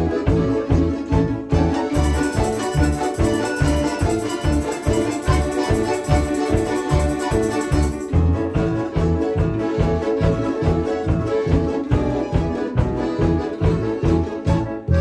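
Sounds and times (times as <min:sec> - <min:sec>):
folk orchestra reedy chords: 0:00.0 - 0:15.0
steady bass beat: 0:00.0 - 0:15.0.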